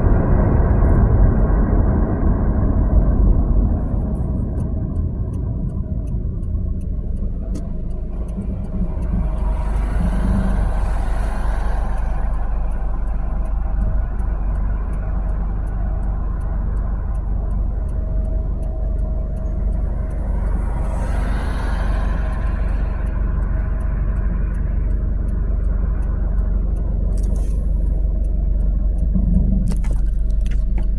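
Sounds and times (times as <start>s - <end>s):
road and engine rumble: 0.0s - 30.9s
faint regular ticking: 2.9s - 30.9s.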